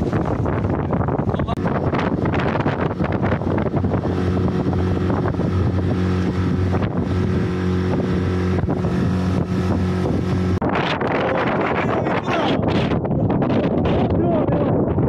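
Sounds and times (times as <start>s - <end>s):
boat motor running: 0.0s - 14.7s
wind buffeting microphone: 0.0s - 15.0s.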